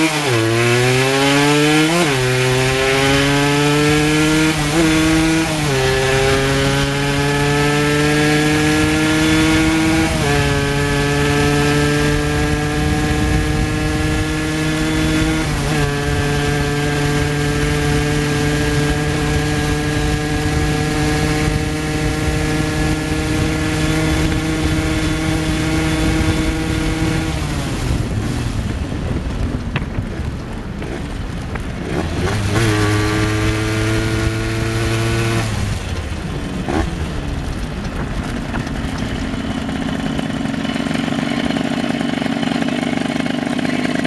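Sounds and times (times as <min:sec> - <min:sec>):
two-stroke engine running hard: 0:00.0 - 0:44.0.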